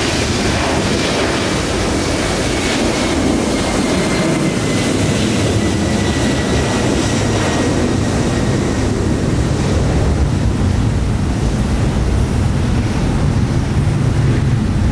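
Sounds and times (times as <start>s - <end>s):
jet engines rumbling: 0.0s - 14.9s.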